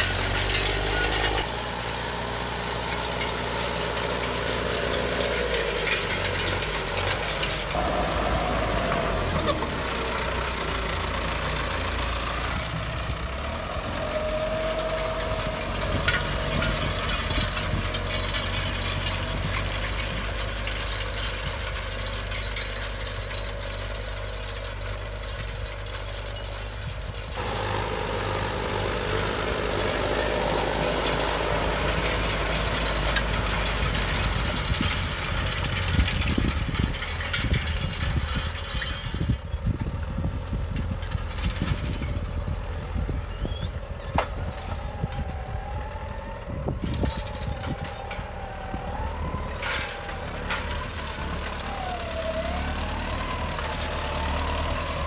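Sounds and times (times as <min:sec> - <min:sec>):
cultivator tines rattling and knocking: 0:00.0 - 0:55.0
tractor engine under load: 0:00.0 - 0:55.0.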